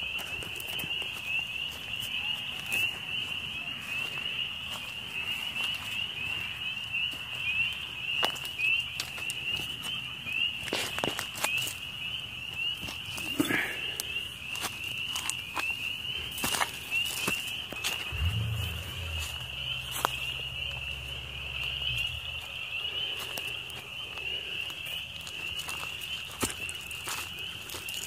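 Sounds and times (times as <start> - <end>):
frogs peeping in chorus: 0.0 - 28.0.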